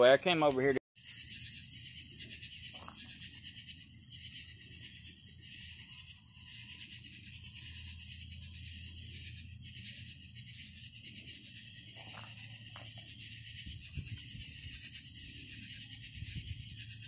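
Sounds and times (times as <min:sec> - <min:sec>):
night insects trilling: 0:00.0 - 0:17.0.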